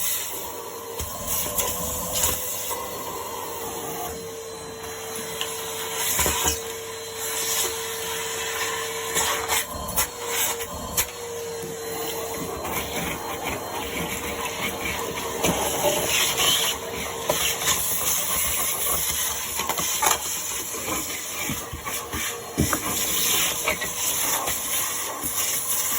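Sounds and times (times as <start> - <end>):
vacuum cleaner suction hiss: 0.0 - 25.9.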